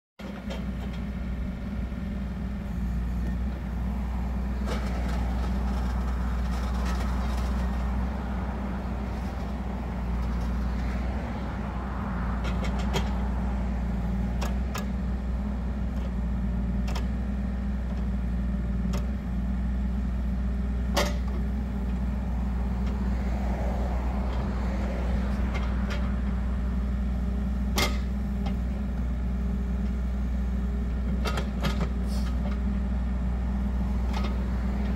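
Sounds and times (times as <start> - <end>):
diesel excavator engine running: 0.2 - 34.9.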